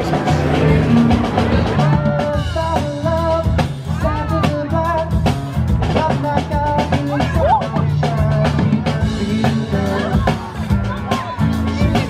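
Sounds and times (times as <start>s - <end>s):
music with drums and bass: 0.0s - 12.0s.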